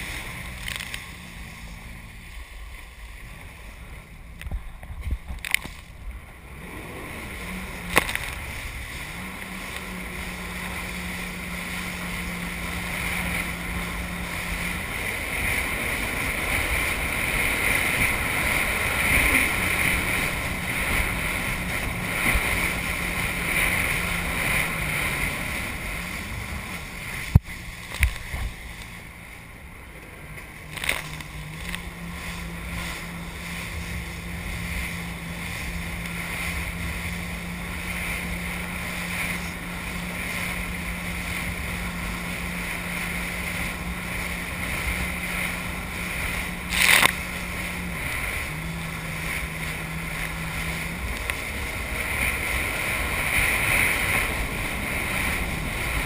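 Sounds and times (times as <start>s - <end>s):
jet ski engine running: 0.0s - 56.0s
wind: 0.0s - 56.0s.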